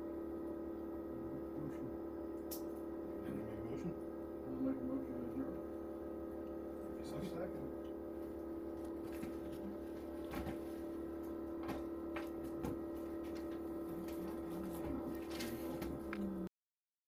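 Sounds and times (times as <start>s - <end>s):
steady machine hum: 0.0s - 16.5s.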